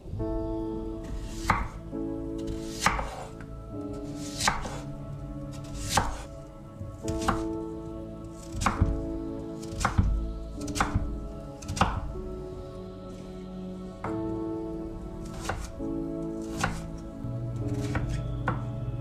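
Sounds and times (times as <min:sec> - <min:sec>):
background music with chords: 0:00.0 - 0:19.0.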